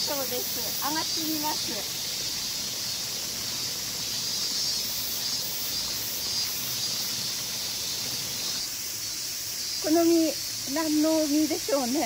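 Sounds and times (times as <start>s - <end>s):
running spring water: 0.0s - 12.0s.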